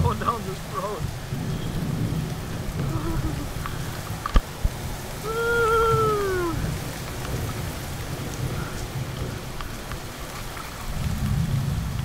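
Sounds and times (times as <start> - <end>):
heavy rain on asphalt: 0.0 - 12.0
low rumble of wind: 0.0 - 12.0.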